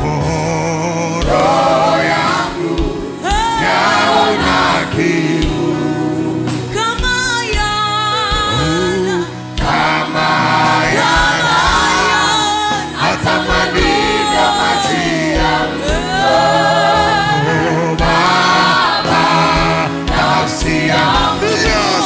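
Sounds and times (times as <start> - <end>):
gospel choir singing: 0.0 - 7.5, 8.3 - 22.0.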